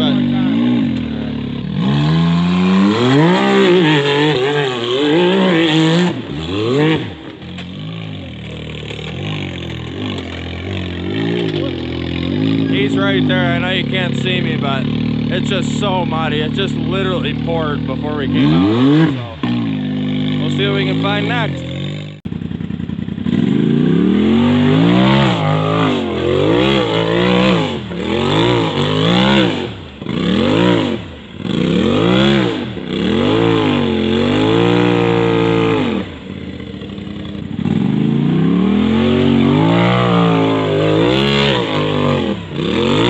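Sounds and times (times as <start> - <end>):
engine revving hard: 0.0 - 22.2, 23.2 - 43.0.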